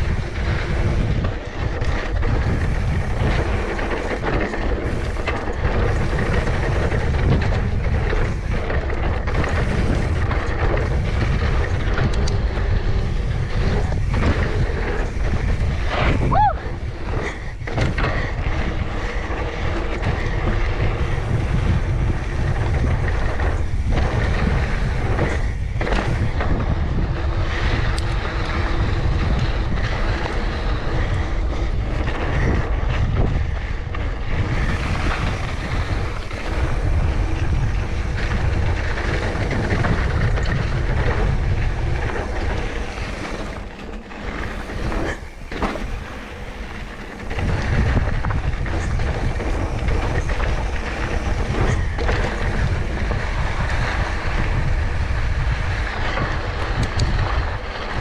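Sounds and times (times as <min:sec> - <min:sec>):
bike rattling: 0:00.0 - 0:58.0
bike tyre noise: 0:00.0 - 0:58.0
wind buffeting microphone: 0:00.0 - 0:58.0.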